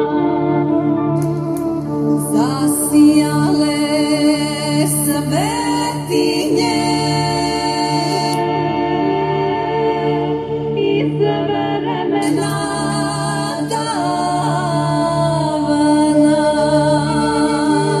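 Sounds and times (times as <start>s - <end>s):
choir singing through a speaker: 0.0s - 18.0s.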